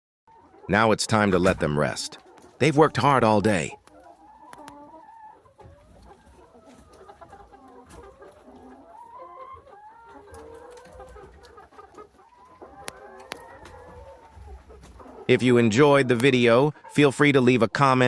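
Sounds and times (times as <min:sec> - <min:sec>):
hens clucking: 0:00.3 - 0:18.0.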